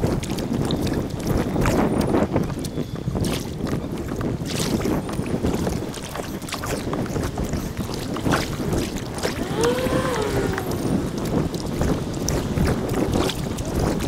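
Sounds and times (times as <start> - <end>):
paddle strokes splashing: 0.0 - 14.0
rushing water: 0.0 - 14.0
wind buffeting microphone: 0.0 - 14.0.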